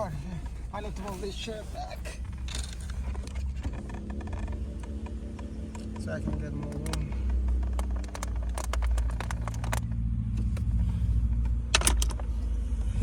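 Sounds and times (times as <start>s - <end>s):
seat clattering: 0.0s - 13.0s
steady low rumble: 0.0s - 13.0s
car seat clicking on its track: 2.3s - 13.0s.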